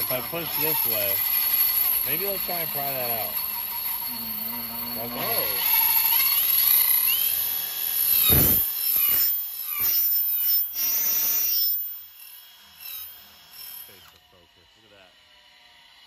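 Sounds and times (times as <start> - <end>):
cordless drill whine: 0.0 - 16.0.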